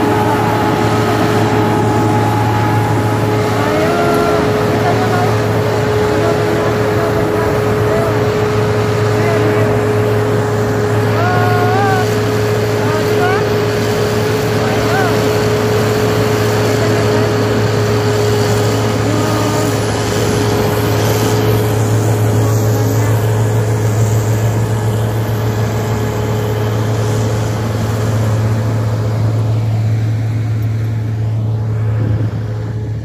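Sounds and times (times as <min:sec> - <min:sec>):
constant whine: 0:00.0 - 0:33.0
diesel engine and snow blower running: 0:00.0 - 0:33.0.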